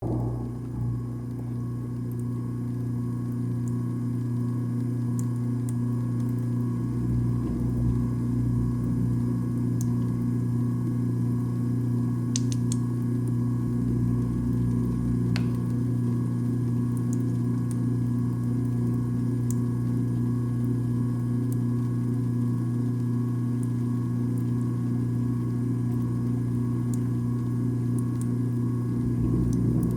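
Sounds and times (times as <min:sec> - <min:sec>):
garbage disposal motor humming: 0:00.0 - 0:22.5, 0:23.8 - 0:29.9.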